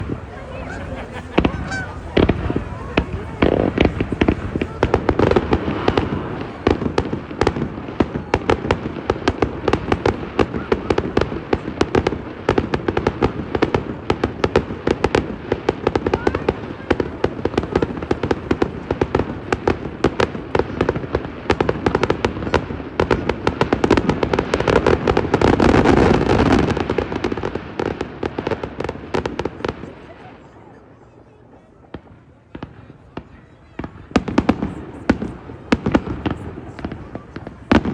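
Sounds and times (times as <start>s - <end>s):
fireworks popping and banging: 0.0s - 37.9s.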